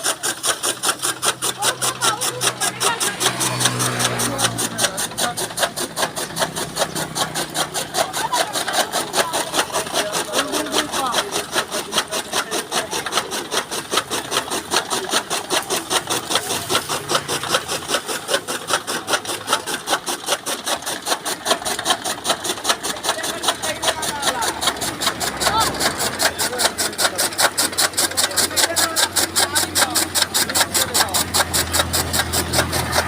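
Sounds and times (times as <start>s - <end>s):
chaff cutter chopping stalks: 0.0s - 33.0s.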